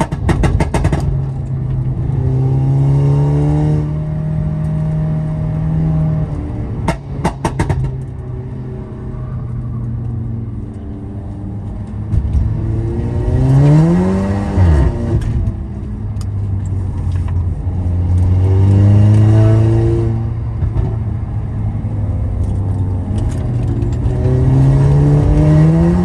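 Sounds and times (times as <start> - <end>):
car engine accelerating: 0.1 - 26.0.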